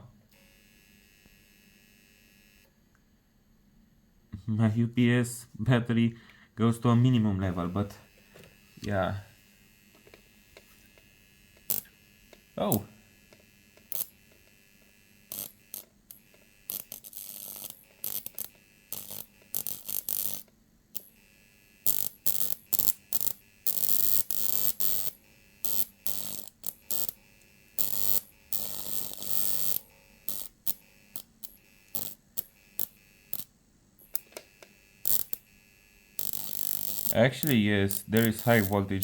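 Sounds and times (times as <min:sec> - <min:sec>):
electric arc snapping: 0:00.3 - 0:02.7, 0:07.5 - 0:39.0.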